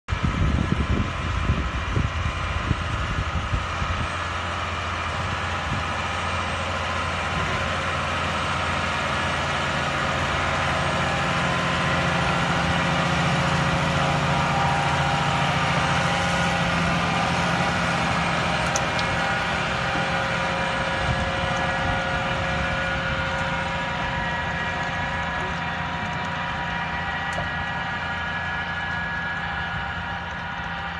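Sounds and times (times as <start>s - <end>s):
tractor engine running under load: 0.1s - 30.9s.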